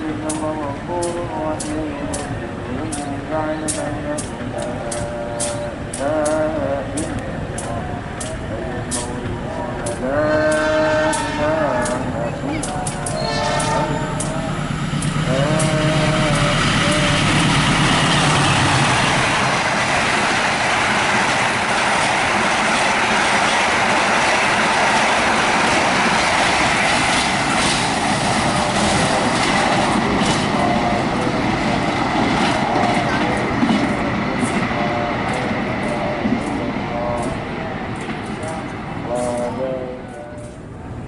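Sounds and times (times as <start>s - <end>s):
wheels clicking over rail joints: 0.0s - 17.5s, 18.1s - 40.6s
train wheels rushing on rail: 0.0s - 41.0s.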